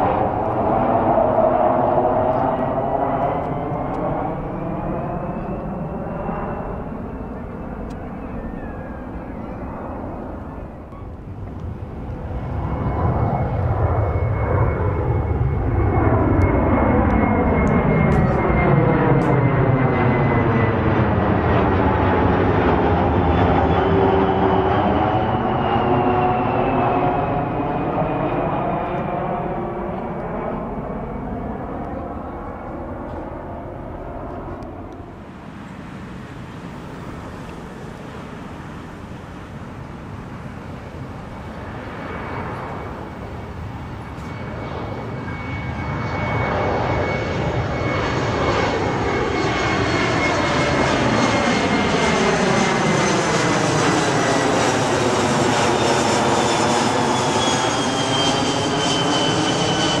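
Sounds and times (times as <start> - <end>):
high jet engine whine: 0.0 - 60.0
jet aircraft passing overhead: 0.0 - 60.0.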